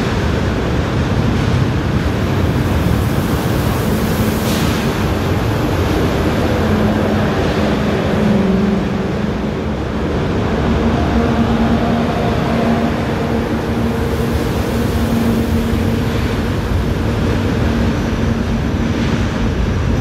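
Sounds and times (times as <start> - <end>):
high-speed train running noise: 0.0 - 20.0
low train hum: 0.0 - 20.0.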